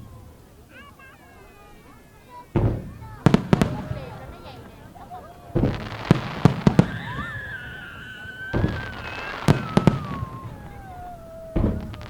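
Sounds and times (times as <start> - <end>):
fireworks crackling: 0.0 - 12.0
fireworks booming: 1.7 - 12.0.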